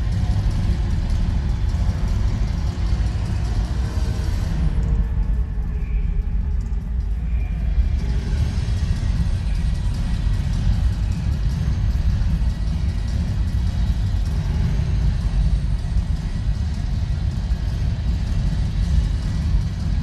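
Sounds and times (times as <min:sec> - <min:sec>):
loud bass-heavy amplified music: 0:00.0 - 0:20.0.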